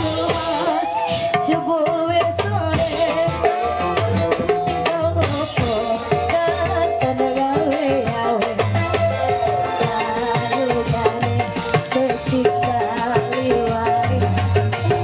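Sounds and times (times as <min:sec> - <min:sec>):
electric keyboard: 0:00.0 - 0:15.0
hand drums: 0:00.0 - 0:15.0
woman singing into a microphone: 0:00.0 - 0:15.0.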